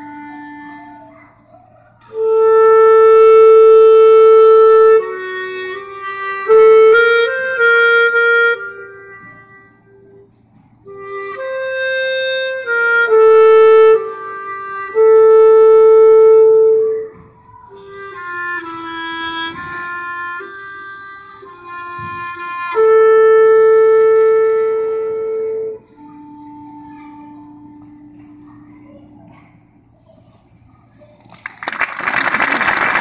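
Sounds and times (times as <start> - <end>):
solo clarinet melody: 0.0 - 1.3, 2.0 - 29.2.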